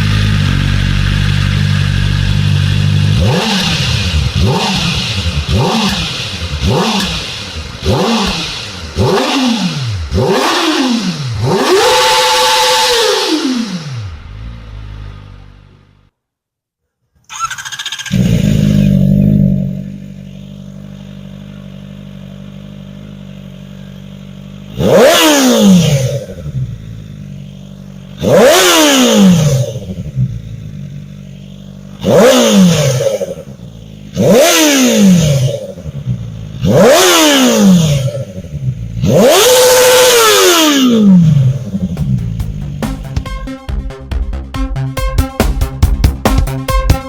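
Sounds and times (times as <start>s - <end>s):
motorcycle engine idling: 0.0s - 16.1s, 17.6s - 47.0s
motorcycle throttle blips: 0.0s - 16.1s, 17.3s - 43.4s.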